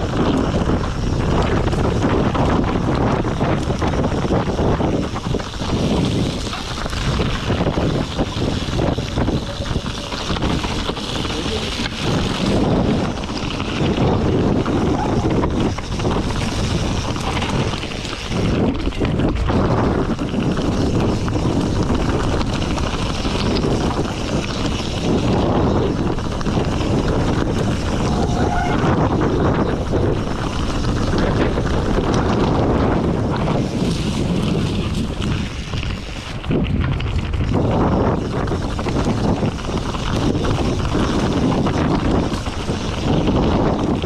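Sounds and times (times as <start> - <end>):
bike rattling: 0.0 - 44.0
tyres crunching over stones: 0.0 - 44.0
wind noise on microphone: 0.0 - 44.0.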